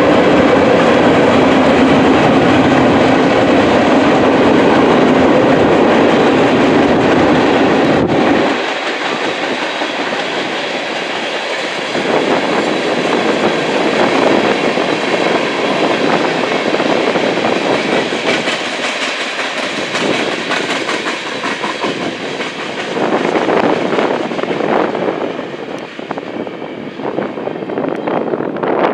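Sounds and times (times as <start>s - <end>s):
train wheels clickety-clack on rails: 0.0s - 28.9s.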